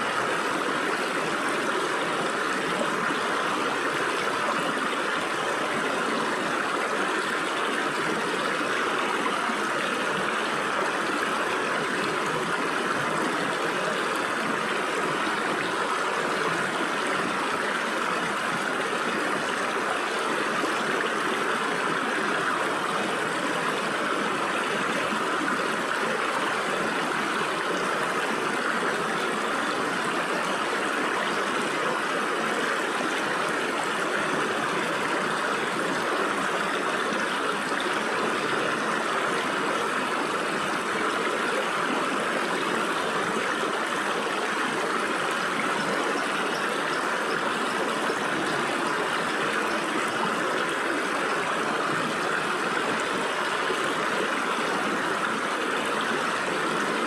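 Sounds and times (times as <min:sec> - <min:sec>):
stream water gurgling over rocks: 0:00.0 - 0:57.0.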